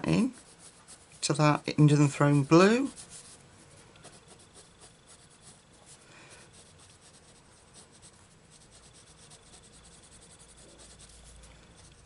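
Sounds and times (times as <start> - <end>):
pencil scratching on paper: 0.0 - 1.3, 2.8 - 3.4, 4.0 - 12.0.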